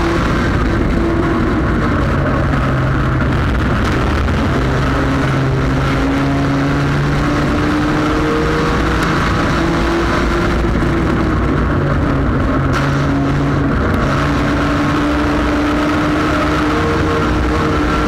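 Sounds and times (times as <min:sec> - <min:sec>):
race car engine running hard: 0:00.0 - 0:18.0
road and wind noise: 0:00.0 - 0:18.0.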